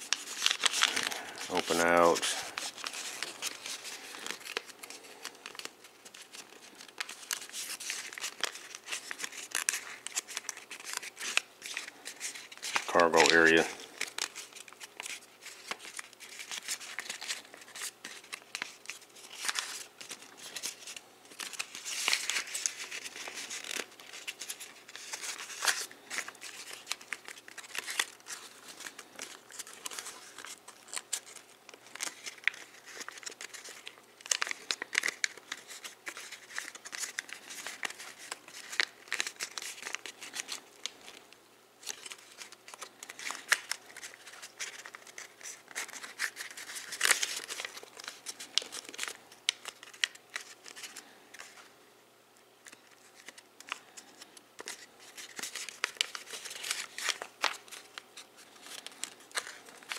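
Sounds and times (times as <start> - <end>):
paper crinkling and crackling: 0.0 - 51.7, 52.6 - 59.9.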